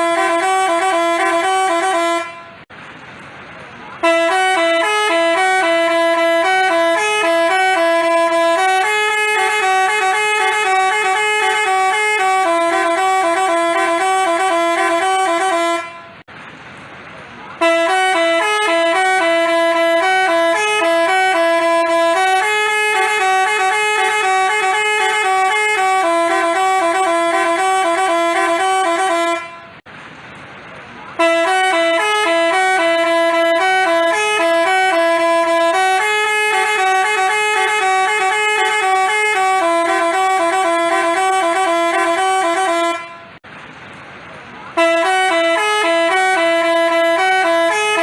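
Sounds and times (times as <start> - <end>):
musical bus horn melody: 0.0 - 2.7, 4.0 - 16.3, 17.6 - 29.9, 31.2 - 43.4, 44.7 - 48.0.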